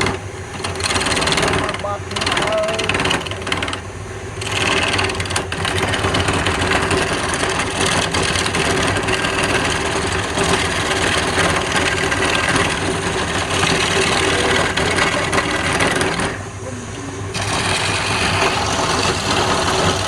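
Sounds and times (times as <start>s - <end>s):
lathe motor hum: 0.0s - 20.0s
tool hissing on spinning wood: 0.0s - 20.0s.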